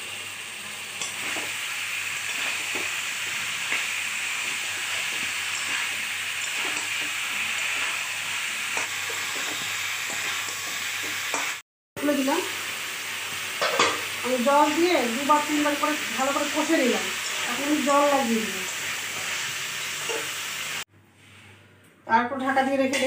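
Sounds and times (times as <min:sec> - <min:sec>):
vegetables sizzling in hot oil: 0:00.0 - 0:20.8.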